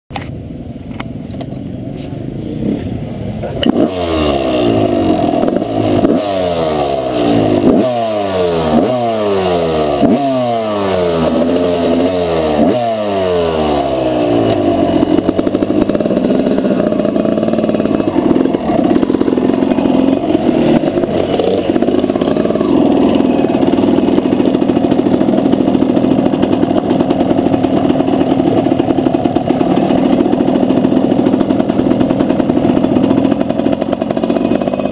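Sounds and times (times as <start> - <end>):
motocross engine revving: 2.5 - 34.9.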